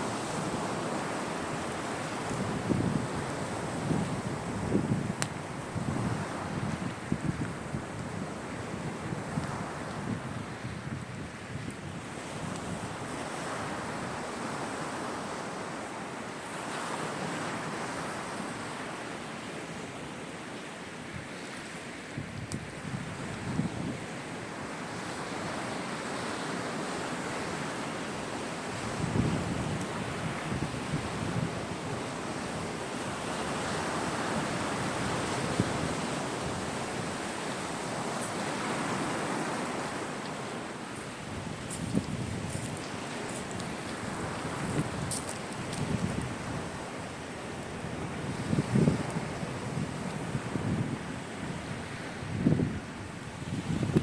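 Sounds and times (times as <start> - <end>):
sea surf washing onto shore: 0.0 - 54.0.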